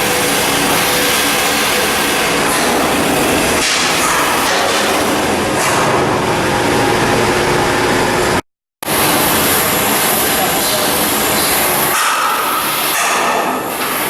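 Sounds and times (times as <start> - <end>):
loud machinery noise: 0.0 - 14.0.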